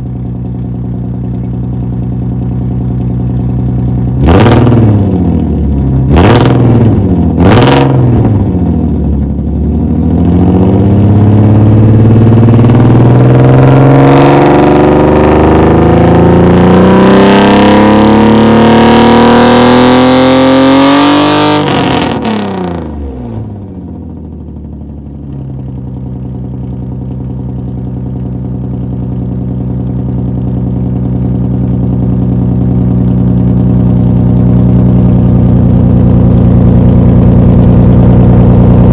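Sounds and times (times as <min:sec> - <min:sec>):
car engine idling: 0:00.0 - 0:14.5, 0:21.7 - 0:38.9
car engine revving: 0:00.0 - 0:24.6, 0:25.2 - 0:38.9.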